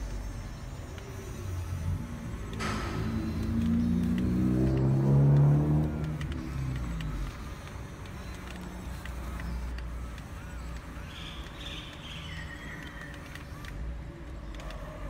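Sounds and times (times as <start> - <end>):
small electric motors whirring: 0.0 - 15.0.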